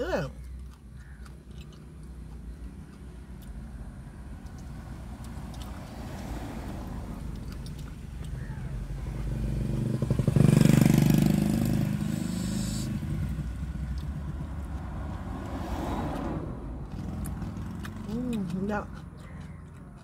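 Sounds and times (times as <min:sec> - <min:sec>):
vehicle passing by: 0:01.4 - 0:20.0.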